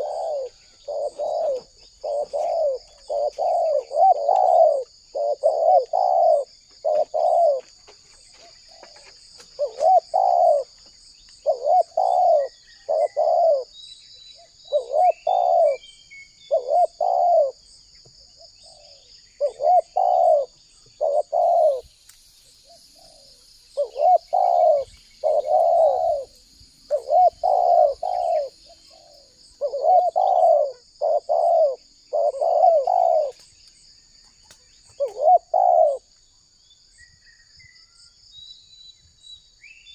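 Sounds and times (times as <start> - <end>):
dove cooing: 0.0 - 10.8, 11.4 - 13.8, 14.4 - 17.7, 18.4 - 21.9, 22.6 - 33.5, 34.9 - 36.1.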